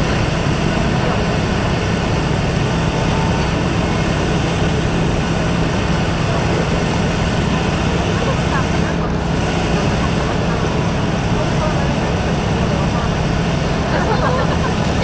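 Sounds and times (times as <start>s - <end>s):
loud rumbling with low hum: 0.0s - 15.0s.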